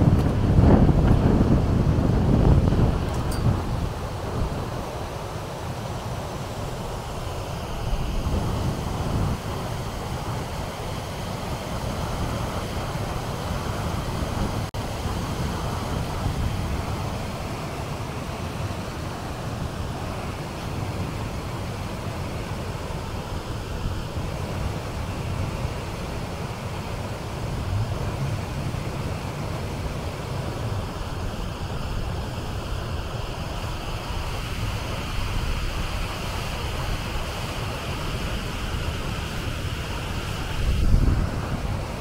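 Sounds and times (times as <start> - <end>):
water rushing over weirs: 0.0 - 42.0
wind buffeting microphone: 0.0 - 42.0.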